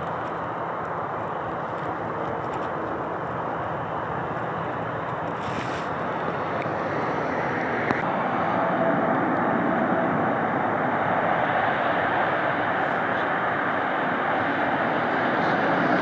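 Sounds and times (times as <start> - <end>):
faint engine whine: 0.0 - 16.0
jet airliner engine rushing: 0.0 - 16.0.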